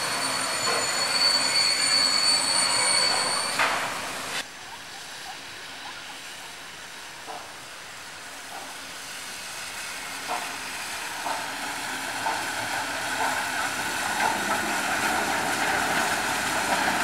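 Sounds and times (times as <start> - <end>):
loud train noise: 0.0 - 17.0
steam locomotive hissing: 0.0 - 17.0.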